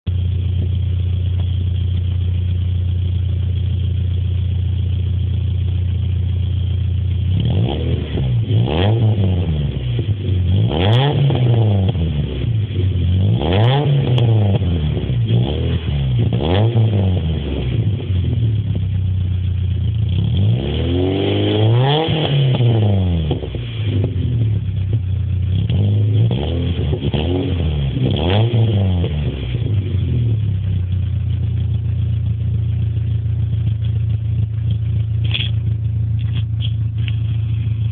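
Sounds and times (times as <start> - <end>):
car engine idling: 0.1 - 20.6, 22.3 - 37.9
car engine revving: 0.2 - 37.9.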